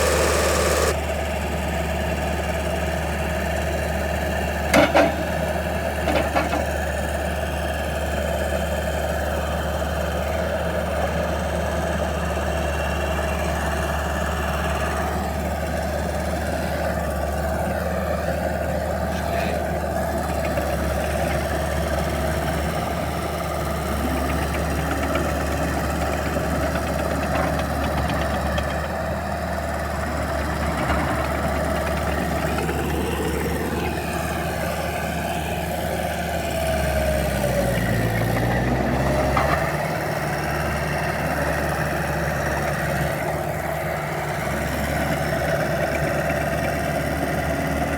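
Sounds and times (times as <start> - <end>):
skid steer engine idling: 0.0 - 47.9.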